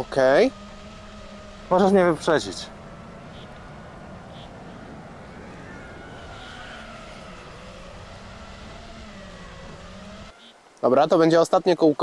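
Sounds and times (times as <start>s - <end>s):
quadcopter motors whining: 0.0s - 10.6s.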